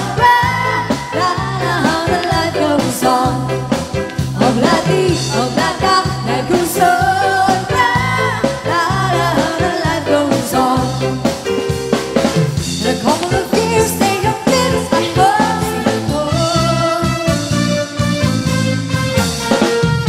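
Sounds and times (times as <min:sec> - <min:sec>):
women singing: 0:00.0 - 0:11.3, 0:12.8 - 0:17.6
live pop band playing: 0:00.0 - 0:20.0.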